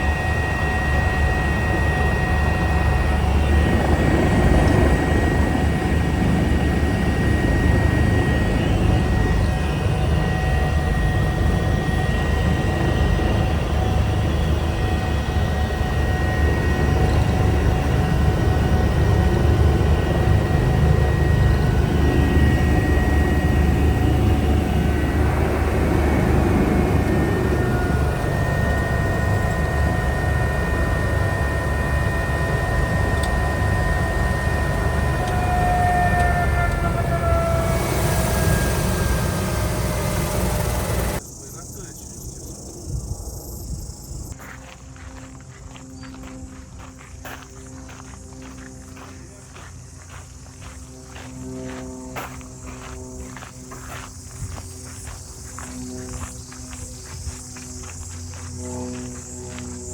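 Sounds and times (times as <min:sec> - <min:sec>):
helicopter rotor and engine rumble: 0:00.0 - 0:59.9
high turbine whine: 0:00.0 - 0:59.9.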